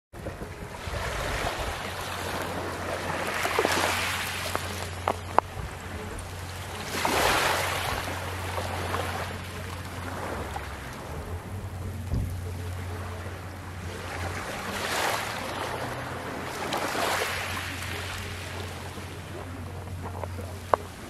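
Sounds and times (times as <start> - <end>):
gentle waves on pebbles: 0.2 - 21.0.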